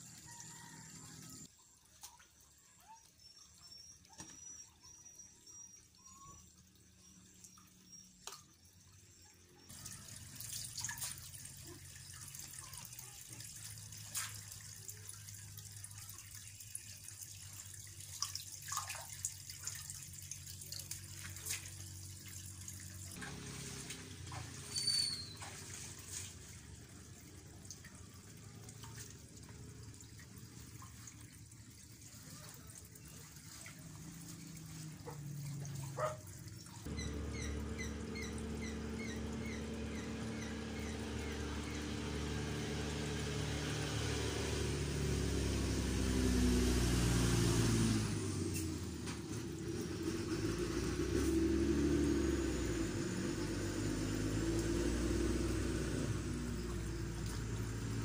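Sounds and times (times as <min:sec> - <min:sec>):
water trickling and dripping: 0:00.0 - 0:50.1, 0:51.0 - 0:58.0.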